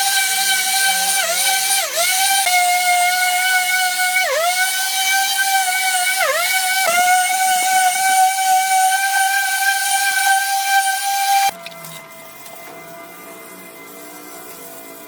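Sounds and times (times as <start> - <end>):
power tool motor whining: 0.0 - 15.0.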